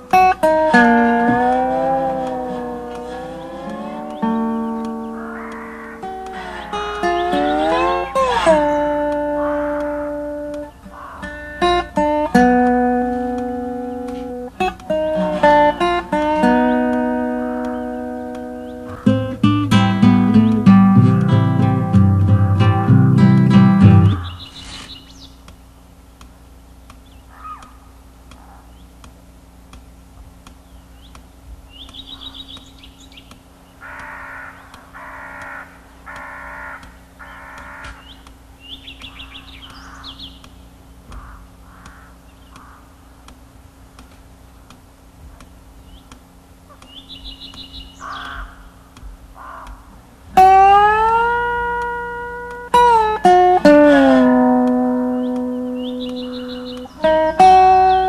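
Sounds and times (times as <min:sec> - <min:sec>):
harsh cawing calls: 0:00.0 - 0:21.2, 0:23.7 - 0:25.2, 0:27.2 - 0:28.9, 0:31.6 - 0:43.9, 0:46.6 - 0:58.0
bird chirps: 0:00.0 - 0:21.4, 0:23.6 - 0:25.5, 0:30.6 - 0:43.2, 0:45.8 - 0:49.9, 0:50.6 - 0:58.0
slide guitar notes: 0:00.0 - 0:24.6, 0:29.0 - 0:58.0
low steady hum: 0:00.0 - 0:58.0.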